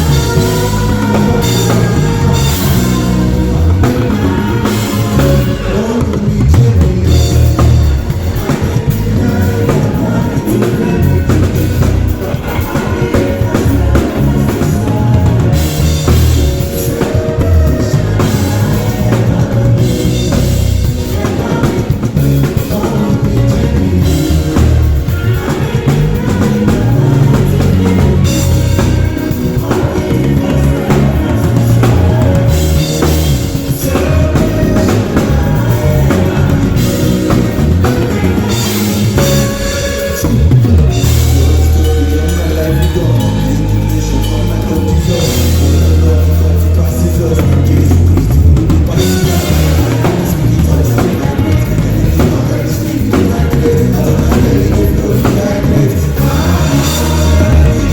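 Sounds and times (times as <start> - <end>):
drum kit: 0.0 - 57.9
heavy bass: 0.0 - 57.9
live band playing: 0.0 - 57.9.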